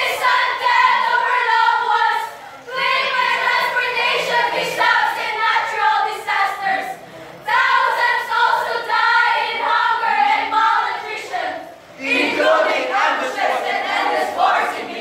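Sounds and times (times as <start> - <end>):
group singing in unison: 0.0 - 15.0.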